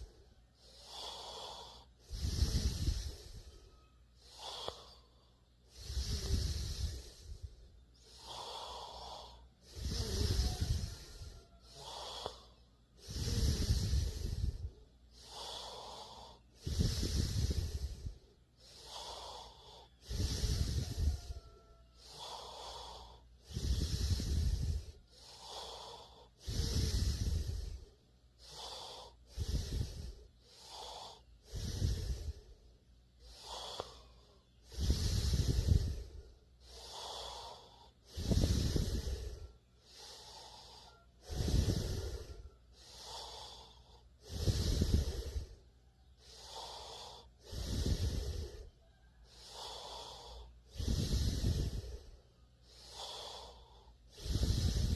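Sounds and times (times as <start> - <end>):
person snoring: 0.0 - 54.9.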